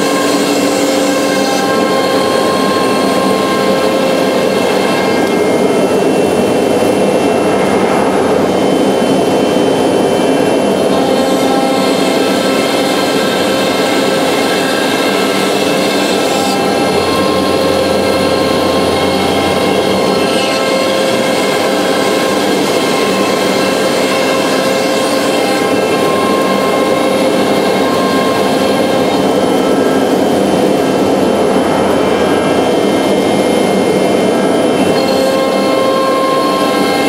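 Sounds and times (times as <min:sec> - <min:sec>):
cnc router whining: 0:00.0 - 0:37.0
vacuum blower rushing noise: 0:00.0 - 0:37.0.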